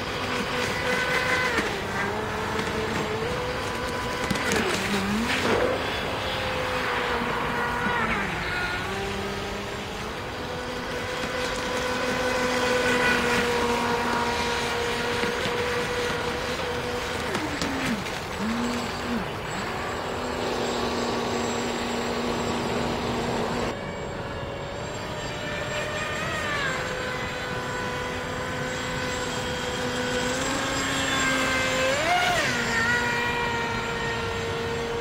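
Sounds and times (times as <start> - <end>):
model jet ski motor whining: 0.0 - 35.0.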